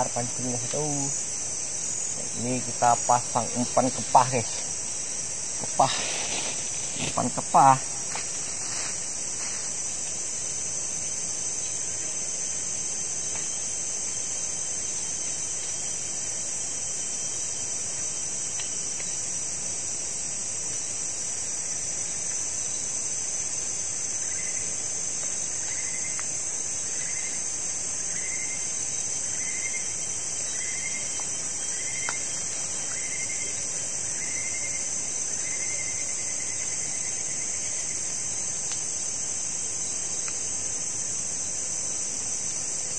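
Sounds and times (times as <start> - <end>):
forest insects droning: 0.0 - 42.9.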